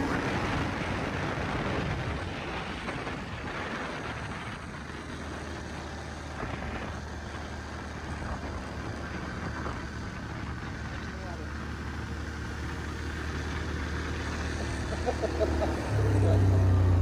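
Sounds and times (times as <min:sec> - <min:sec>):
atv engine running: 0:00.0 - 0:17.0
wind: 0:00.0 - 0:17.0.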